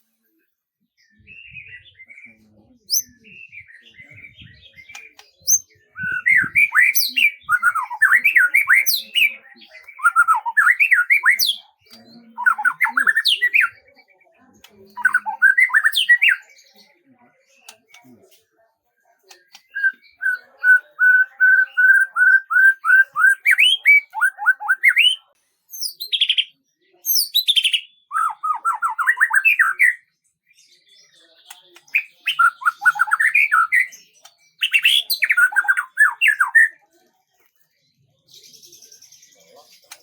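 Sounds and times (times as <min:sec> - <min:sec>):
songbird singing: 0:00.8 - 0:36.8.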